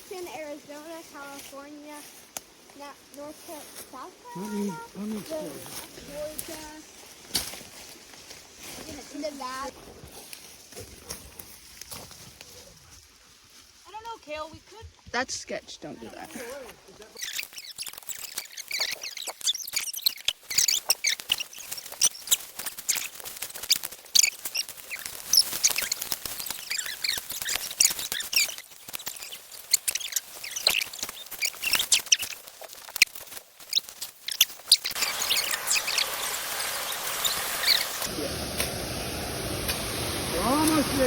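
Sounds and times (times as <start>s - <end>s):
small birds chirping: 0.0s - 10.6s, 15.8s - 38.1s
sharp crackles and snaps: 0.1s - 12.6s, 17.0s - 38.7s.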